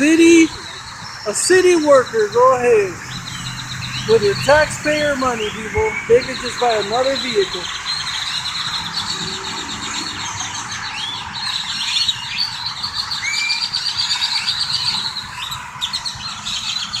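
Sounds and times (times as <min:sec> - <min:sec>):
birds singing trills and chirps: 0:00.0 - 0:17.0.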